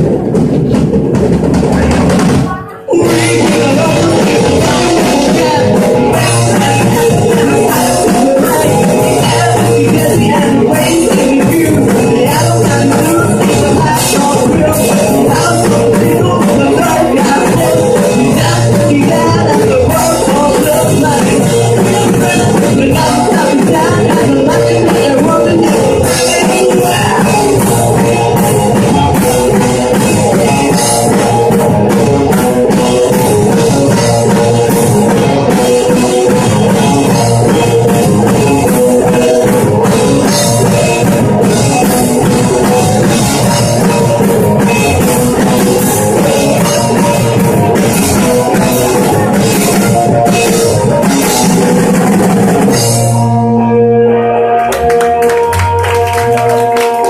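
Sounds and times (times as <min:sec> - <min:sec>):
drum kit: 0:00.0 - 0:57.0
rock band playing: 0:00.0 - 0:57.0
held guitar chords ringing: 0:02.5 - 0:57.0.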